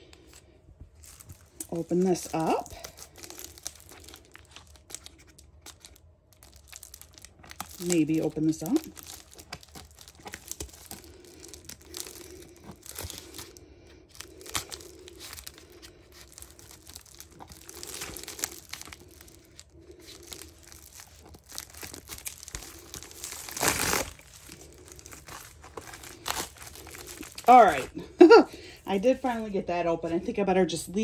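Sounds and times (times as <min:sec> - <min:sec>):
plastic crinkling: 0:00.0 - 0:29.6.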